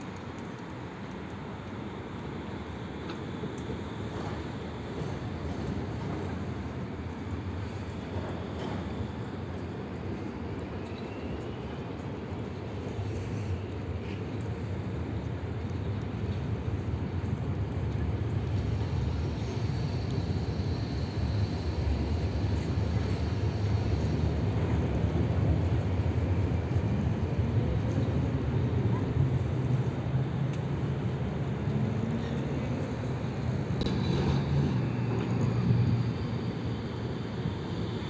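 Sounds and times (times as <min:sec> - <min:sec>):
street traffic: 0:00.0 - 0:38.0
tram wheels rumbling on rails: 0:00.0 - 0:38.0.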